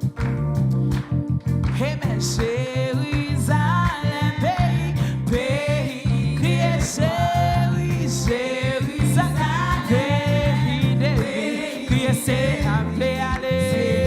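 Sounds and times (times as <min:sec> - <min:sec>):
worship band playing: 0:00.0 - 0:14.0
person singing: 0:01.8 - 0:14.0.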